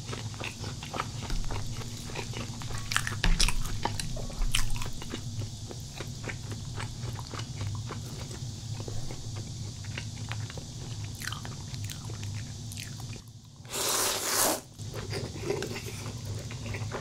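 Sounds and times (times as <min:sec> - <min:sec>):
chewing food: 0:00.0 - 0:13.6, 0:14.9 - 0:17.0.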